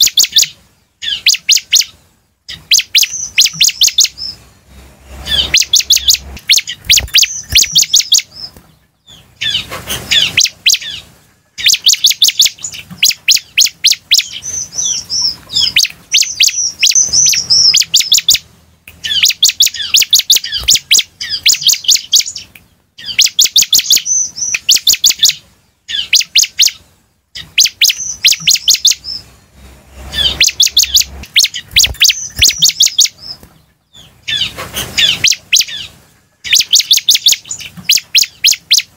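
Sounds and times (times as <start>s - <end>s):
bird singing chirps and whistles: 0.0s - 4.5s, 5.1s - 11.0s, 11.6s - 26.8s, 27.4s - 29.3s, 30.0s - 38.9s.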